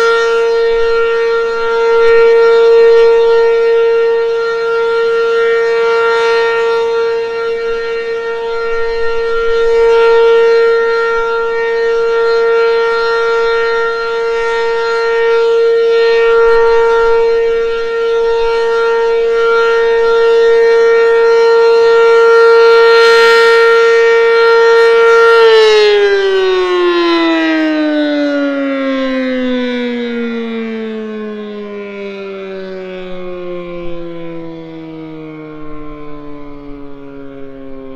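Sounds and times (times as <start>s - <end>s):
siren winding down: 0.0s - 37.9s
warning siren tone: 0.0s - 37.9s.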